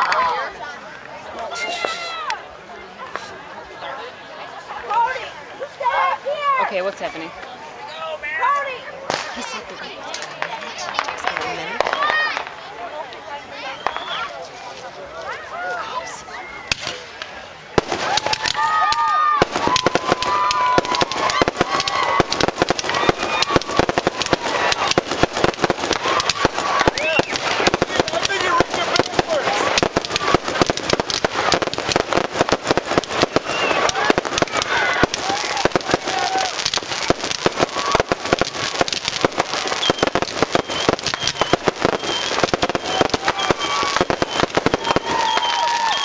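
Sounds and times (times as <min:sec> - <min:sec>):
fireworks popping and crackling: 0:00.0 - 0:02.4, 0:03.0 - 0:03.5, 0:08.4 - 0:46.0.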